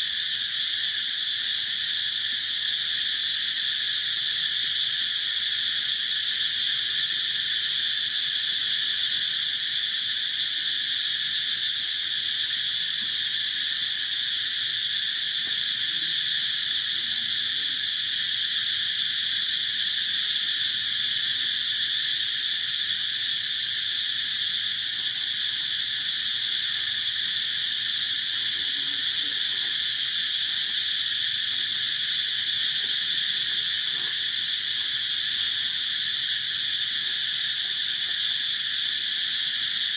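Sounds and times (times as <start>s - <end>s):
insect chorus droning: 0.0s - 39.9s.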